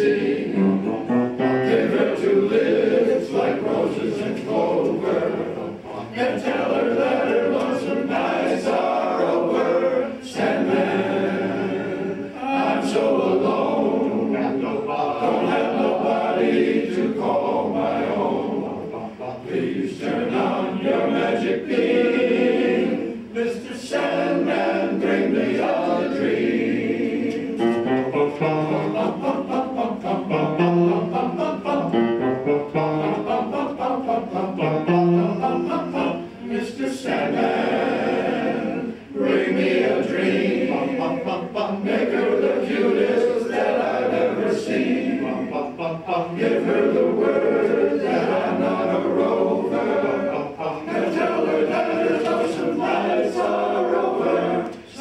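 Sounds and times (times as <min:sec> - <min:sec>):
male choir singing in harmony: 0:00.0 - 0:55.0.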